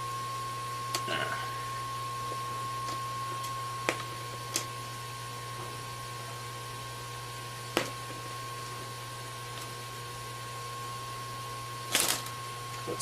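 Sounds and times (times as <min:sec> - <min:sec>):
steady hum with high whine: 0:00.0 - 0:13.0.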